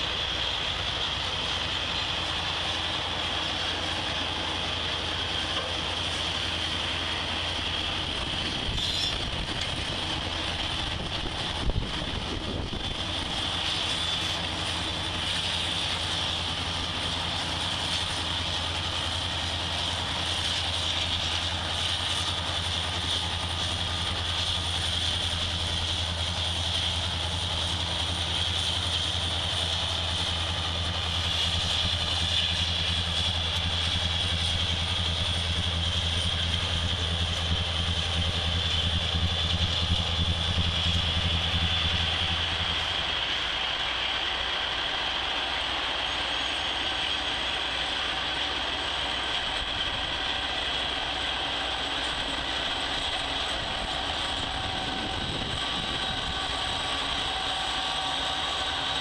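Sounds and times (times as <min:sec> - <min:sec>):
diesel locomotives droning: 0:00.0 - 0:59.0
train wheels on rails: 0:00.0 - 0:59.0.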